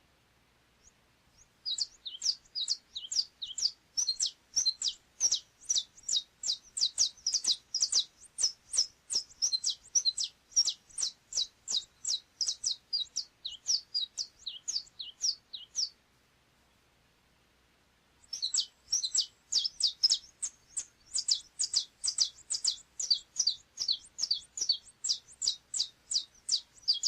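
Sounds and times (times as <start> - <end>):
finch singing rapid notes: 1.6 - 15.9, 18.2 - 27.0.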